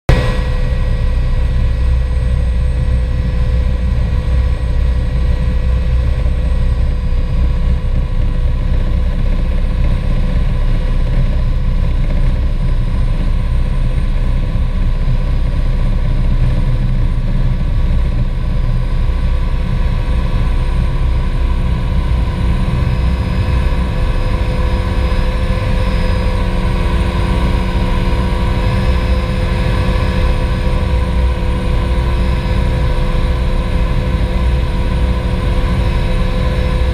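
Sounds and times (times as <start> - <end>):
helicopter rotor rumble: 0.1 - 36.9
turbine whine: 0.1 - 36.9.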